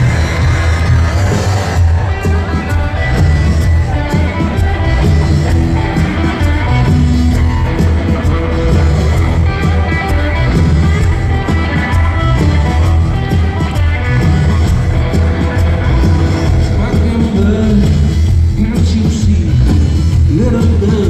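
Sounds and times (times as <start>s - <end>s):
bass guitar: 0.0s - 21.0s
electric guitar: 0.0s - 21.0s
steady drum beat: 0.0s - 21.0s.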